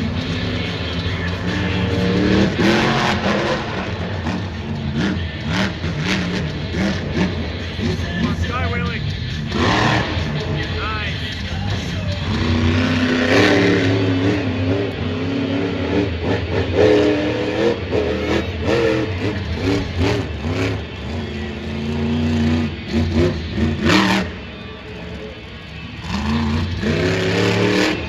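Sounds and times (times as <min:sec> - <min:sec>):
truck engine revving hard: 0:00.0 - 0:28.0.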